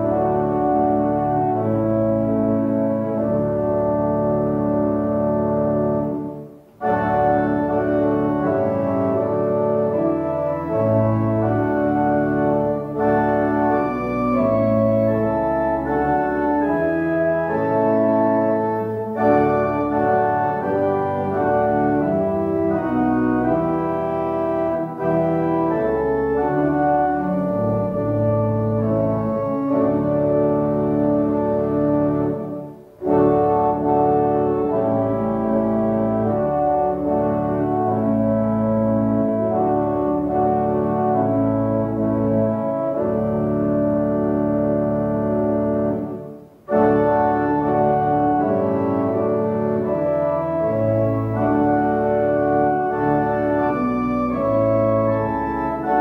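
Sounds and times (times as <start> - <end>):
organ playing a hymn: 0.0 - 56.0.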